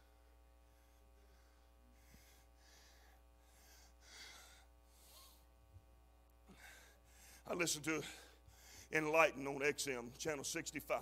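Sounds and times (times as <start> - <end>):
soft breaths: 0.0 - 9.0
faint electrical hum: 0.0 - 11.0.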